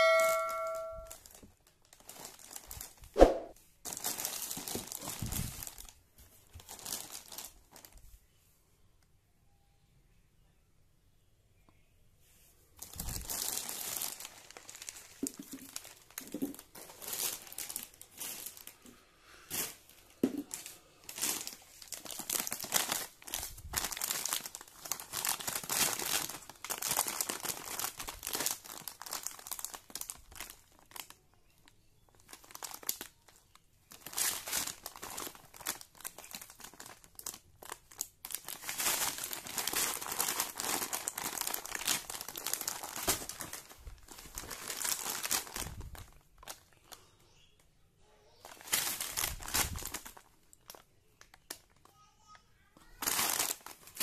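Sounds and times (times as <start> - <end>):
plastic food packet crinkling: 1.0 - 3.2, 3.8 - 8.1, 12.8 - 18.9, 19.5 - 47.0, 48.4 - 52.0, 52.8 - 54.0.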